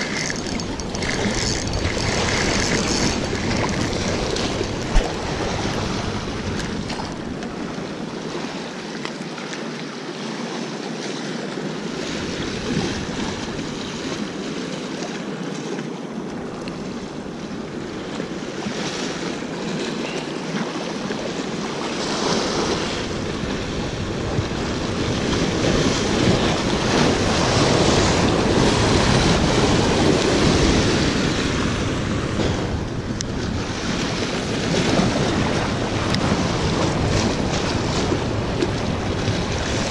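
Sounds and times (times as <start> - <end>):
wind buffeting microphone: 0.0 - 8.4, 16.2 - 39.9
surf splashing against rocks: 0.0 - 39.9.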